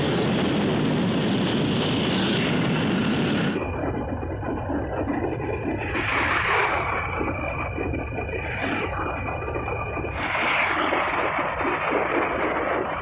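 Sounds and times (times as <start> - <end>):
motorcycle engine and road noise: 0.0 - 13.0
wind rushing over microphone: 0.0 - 13.0.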